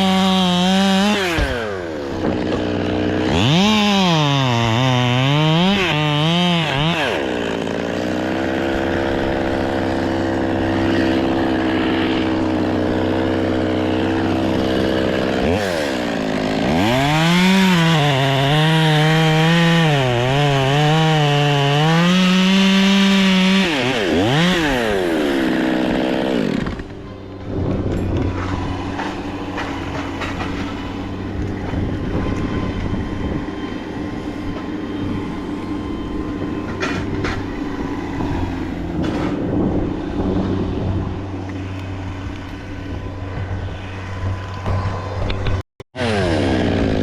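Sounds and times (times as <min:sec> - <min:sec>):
chainsaw engine revving: 0:00.0 - 0:42.6, 0:46.0 - 0:47.0.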